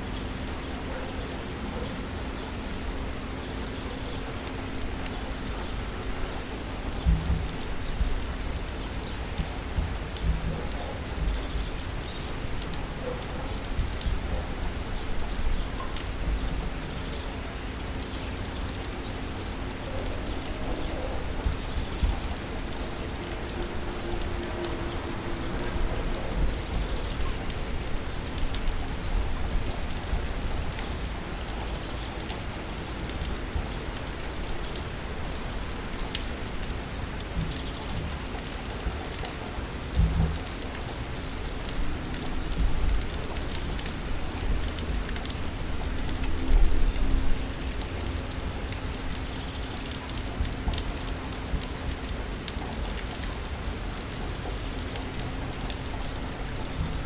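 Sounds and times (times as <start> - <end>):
rain drips ticking on surfaces: 0.0 - 57.0.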